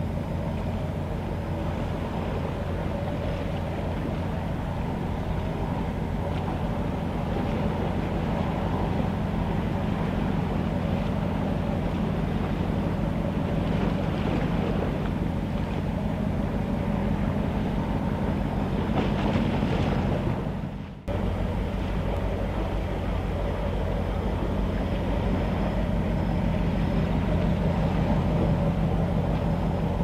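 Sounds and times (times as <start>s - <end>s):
ship engines rumbling: 0.0s - 30.0s
wind buffeting microphone: 0.0s - 30.0s.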